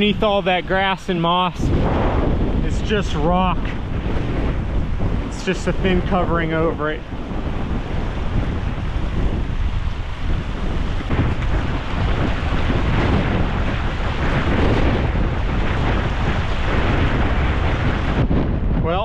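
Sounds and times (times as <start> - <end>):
gusty wind on microphone: 0.0 - 19.0.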